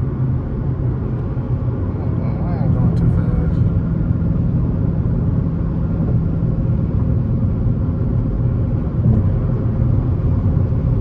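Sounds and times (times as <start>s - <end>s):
car engine and tyres drone: 0.0s - 11.0s.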